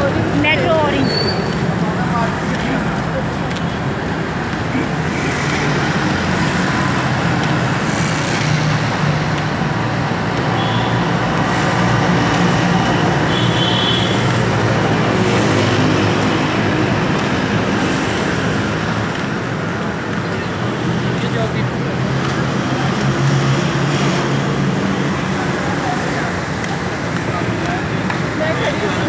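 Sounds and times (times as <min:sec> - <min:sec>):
motorbike engines running: 0:00.0 - 0:29.0
road traffic hiss: 0:00.0 - 0:29.0.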